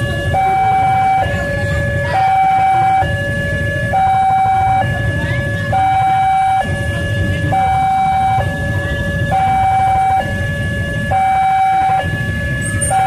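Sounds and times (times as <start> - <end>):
level-crossing two-tone alarm: 0.0 - 13.0
steady low rumble: 0.0 - 13.0.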